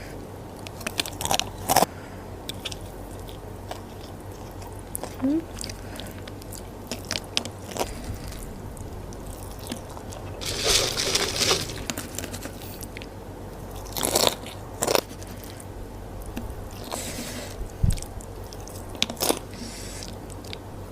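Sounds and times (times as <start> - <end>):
person chewing crunchy food: 0.6 - 1.9, 2.5 - 8.5, 9.1 - 15.6, 16.2 - 20.6.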